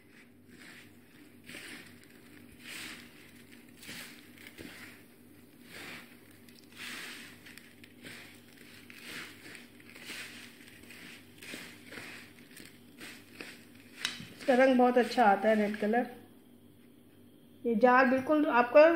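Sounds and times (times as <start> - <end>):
hands mixing food in steel plate: 0.0 - 16.1.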